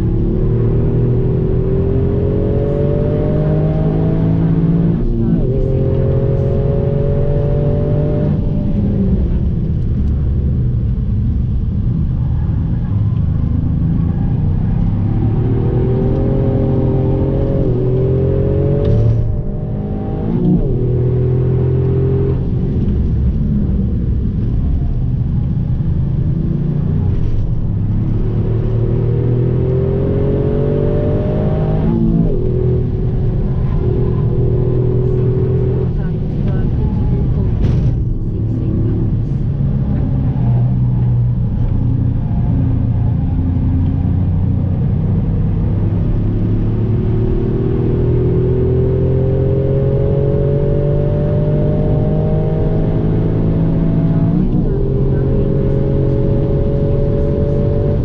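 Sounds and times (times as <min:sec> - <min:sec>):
car engine revving: 0:00.0 - 0:58.0
road and tyre rumble: 0:00.0 - 0:58.0.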